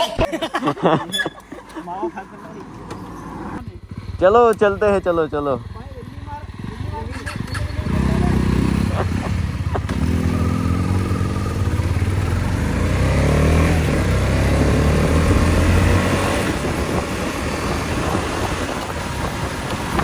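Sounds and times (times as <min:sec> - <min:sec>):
wind and road noise: 0:00.1 - 0:20.0
motorcycle engine accelerating: 0:01.6 - 0:20.0.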